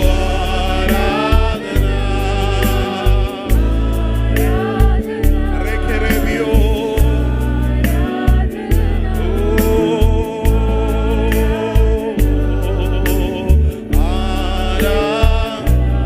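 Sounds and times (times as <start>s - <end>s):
band playing worship song: 0.0s - 16.0s
deep bass: 0.0s - 16.0s
voices singing: 0.0s - 16.0s.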